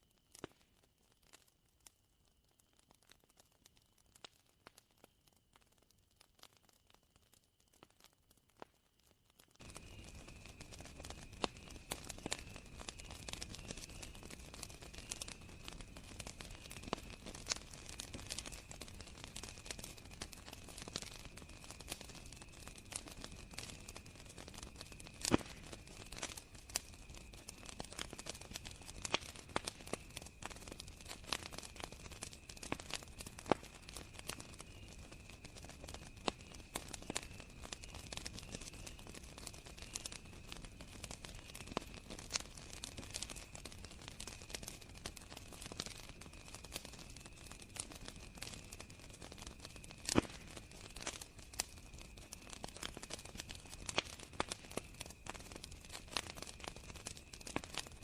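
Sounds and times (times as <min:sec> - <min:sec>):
campfire crackling and popping: 0:00.0 - 0:58.0
crickets trilling: 0:09.6 - 0:58.0.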